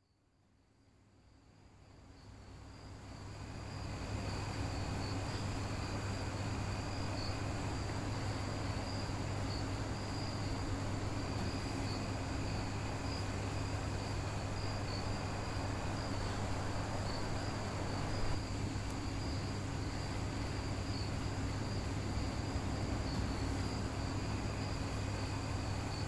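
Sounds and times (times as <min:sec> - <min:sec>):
crickets chirping: 0:00.0 - 0:26.0
low hum and hiss: 0:00.0 - 0:26.0.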